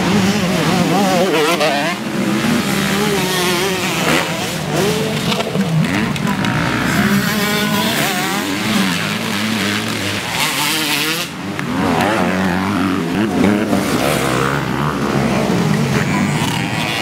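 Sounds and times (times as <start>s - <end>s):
dirt bike engines racing: 0.0s - 17.0s.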